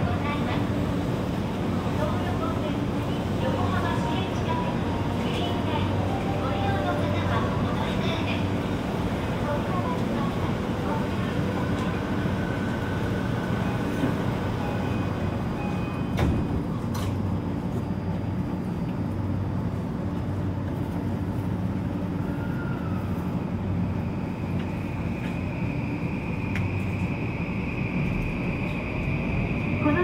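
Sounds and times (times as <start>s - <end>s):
train interior hum: 0.0s - 30.0s.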